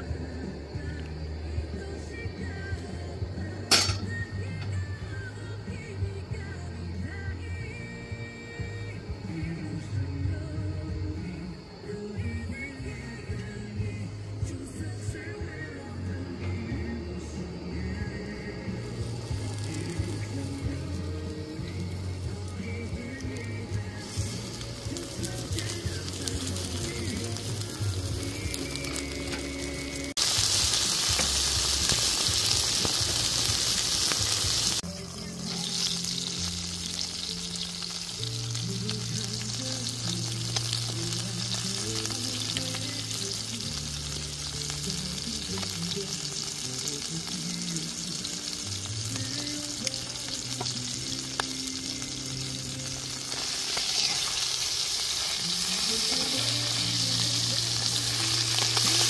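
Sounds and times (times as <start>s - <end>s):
background music with held notes: 0.0s - 59.0s
food sizzling in a pan: 3.4s - 7.7s, 14.8s - 59.0s.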